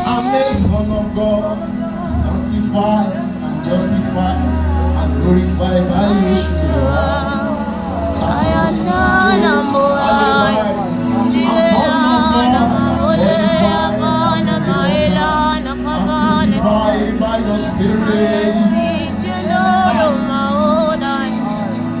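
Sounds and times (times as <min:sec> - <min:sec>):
low keyboard chord: 0:00.0 - 0:22.0
person singing: 0:00.0 - 0:22.0.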